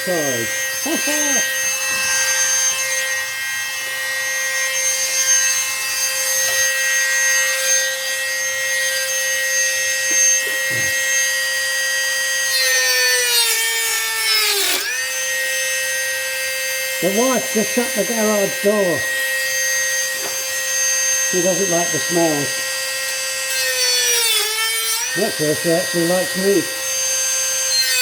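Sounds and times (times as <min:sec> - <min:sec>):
power tool cutting fiberglass: 0:00.0 - 0:28.0.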